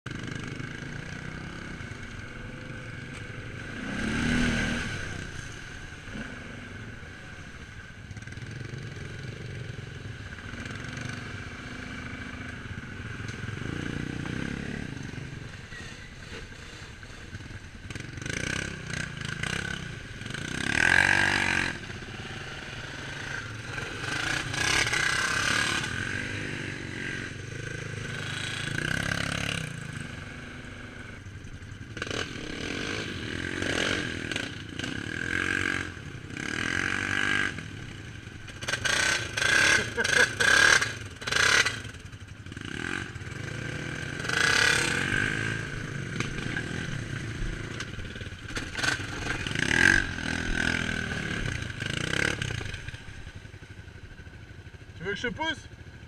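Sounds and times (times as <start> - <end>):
quad bike engines revving: 0.1 - 56.0.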